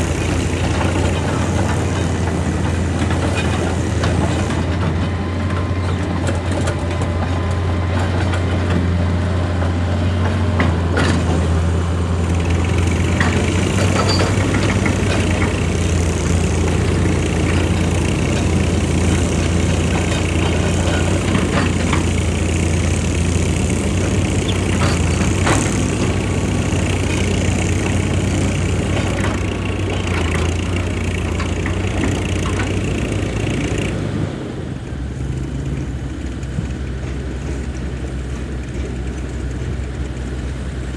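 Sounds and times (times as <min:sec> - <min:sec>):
diesel machinery running: 0:00.0 - 0:40.9.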